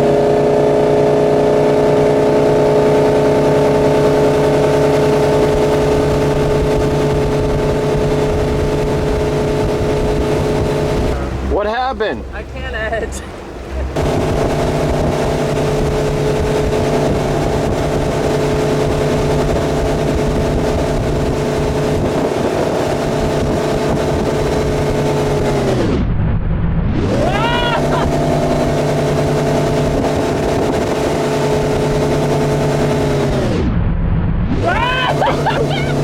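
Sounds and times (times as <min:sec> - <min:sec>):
boat inboard engine running: 0:00.0 - 0:25.7, 0:27.1 - 0:33.5, 0:34.6 - 0:36.0.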